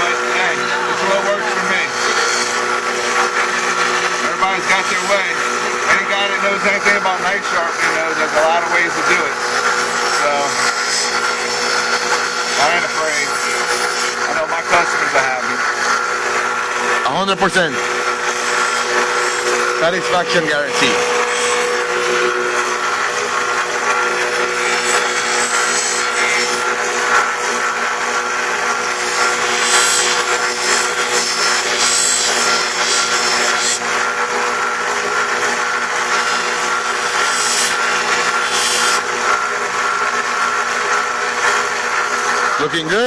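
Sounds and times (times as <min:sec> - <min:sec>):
blade grinding on abrasive: 0:00.0 - 0:43.0
sharpening machine motor hum: 0:00.0 - 0:43.0.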